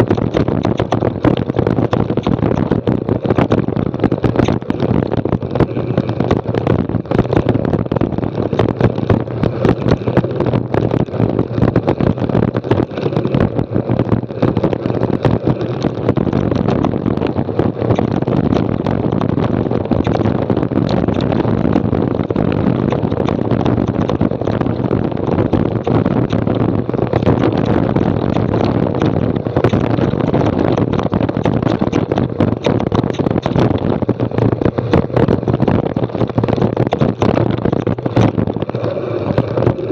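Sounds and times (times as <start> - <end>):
steady rumble: 0.0 - 39.9.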